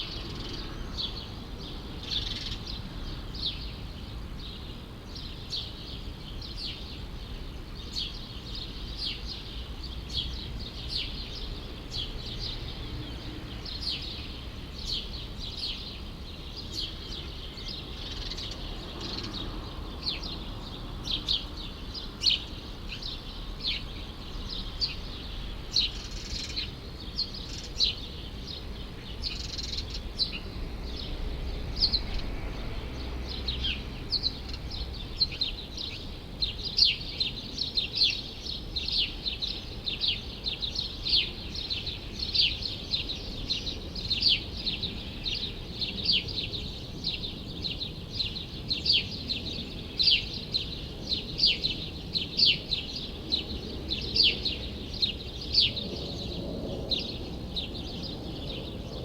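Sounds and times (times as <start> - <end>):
distant city traffic rumble: 0.0 - 59.0
small birds chirping: 0.0 - 59.0.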